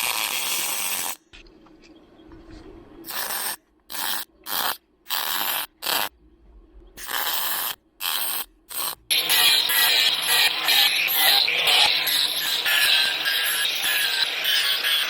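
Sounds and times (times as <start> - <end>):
welder crackling: 0.0 - 1.2, 3.1 - 6.1, 7.0 - 15.0.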